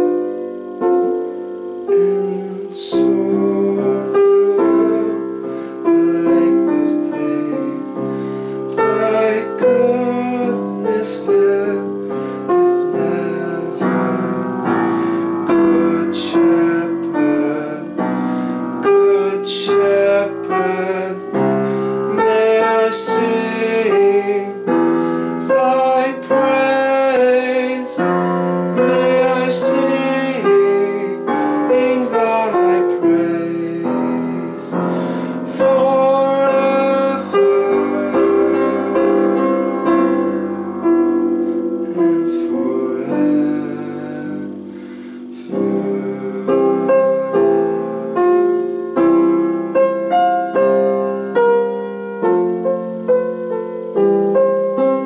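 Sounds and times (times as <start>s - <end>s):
piano accompaniment: 0.0s - 55.0s
man singing: 1.8s - 40.4s, 41.7s - 49.0s.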